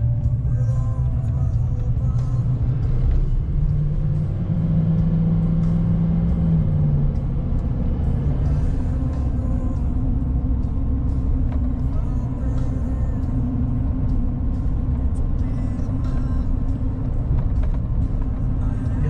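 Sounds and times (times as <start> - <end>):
vehicle engine low rumble: 0.0 - 19.0.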